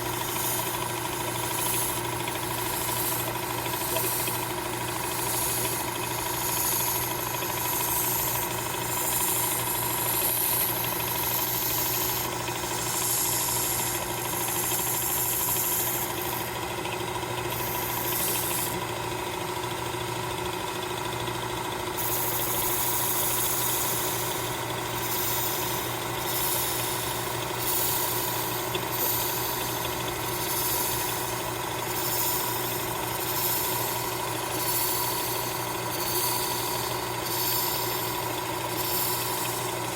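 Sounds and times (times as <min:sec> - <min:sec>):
belt grinding knife blade: 0:00.0 - 0:16.5, 0:22.1 - 0:39.9
motor hum: 0:00.0 - 0:39.9.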